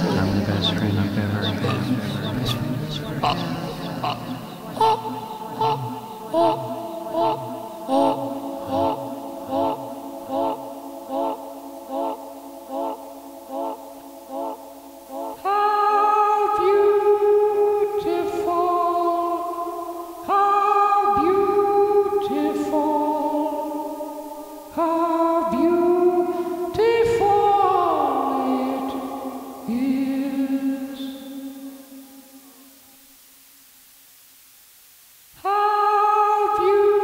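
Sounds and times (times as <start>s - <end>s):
electronic choir-like chords: 0.0s - 33.2s, 35.4s - 37.0s.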